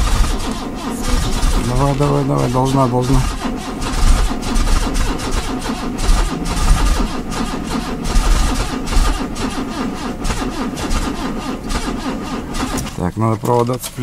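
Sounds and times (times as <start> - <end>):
car engine cranking on starter: 0.0 - 14.0.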